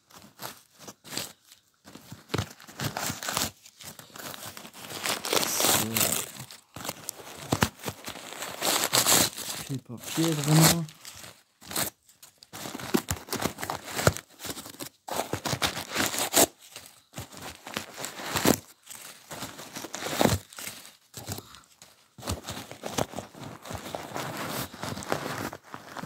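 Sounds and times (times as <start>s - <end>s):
packing paper crinkling: 0.0s - 26.0s.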